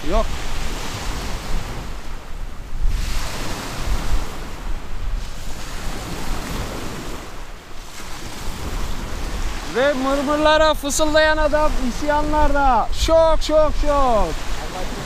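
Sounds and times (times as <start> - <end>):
waves washing on a pebble beach: 0.0 - 15.0
wind rumble on microphone: 0.0 - 15.0.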